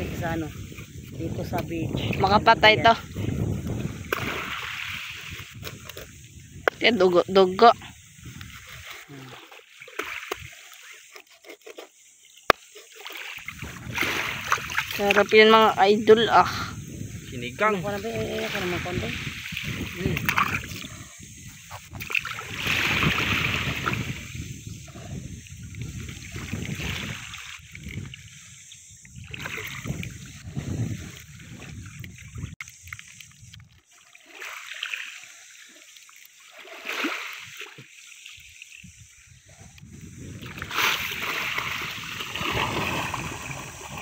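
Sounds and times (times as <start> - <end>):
water splashing and sloshing: 0.0 - 44.0.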